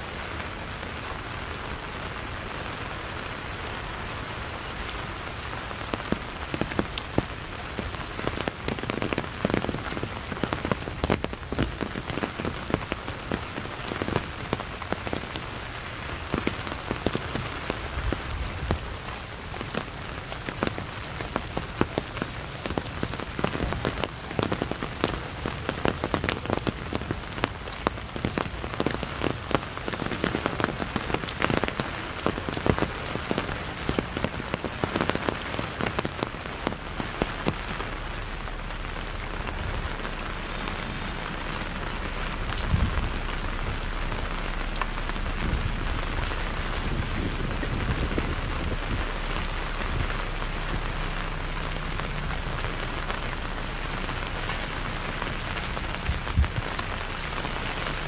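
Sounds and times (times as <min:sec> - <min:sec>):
sharp raindrop hits: 0:00.0 - 0:58.0
steady rain falling: 0:00.0 - 0:58.0.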